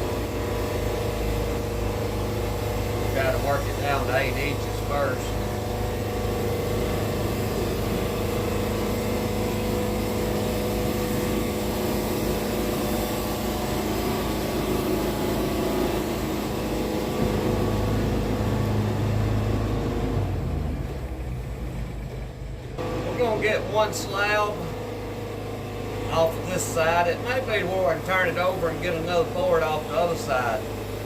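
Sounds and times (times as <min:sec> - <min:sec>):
band sawmill sawing log: 0:00.0 - 0:31.0.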